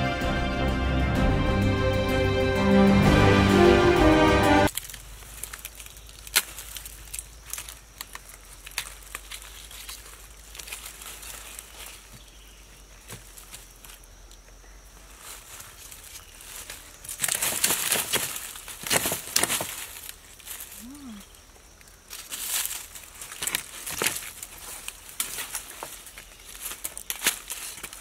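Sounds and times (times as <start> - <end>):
rotten wood cracking and crunching: 4.7 - 28.0.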